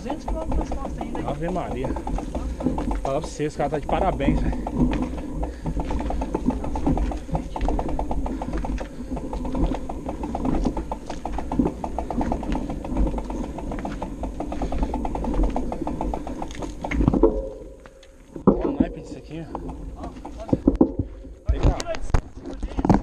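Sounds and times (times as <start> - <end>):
bicycle freehub ratchet clicking: 0.0 - 18.1, 19.3 - 20.8
low rumble: 0.0 - 21.5.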